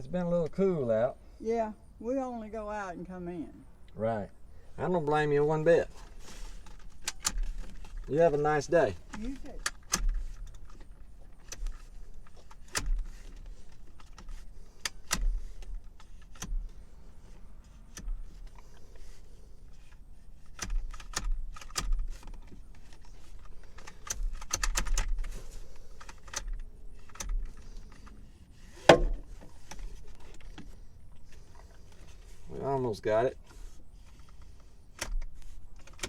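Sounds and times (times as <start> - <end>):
seatbelt retractor clicking: 6.0 - 32.4, 33.4 - 36.0.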